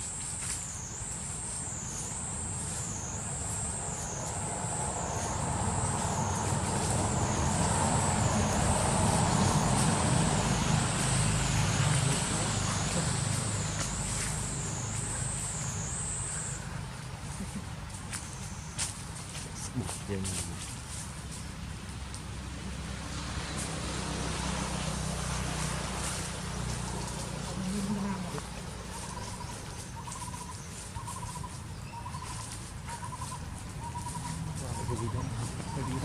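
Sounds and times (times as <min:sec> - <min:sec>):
high wavering insect drone: 0:00.0 - 0:21.0, 0:23.0 - 0:36.0
vehicle passing by: 0:01.6 - 0:36.0.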